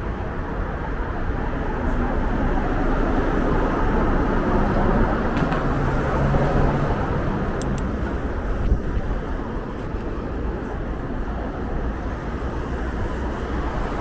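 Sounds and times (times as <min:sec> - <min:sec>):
city street traffic: 0:00.0 - 0:14.0
passing vehicle engine hum: 0:00.0 - 0:14.0.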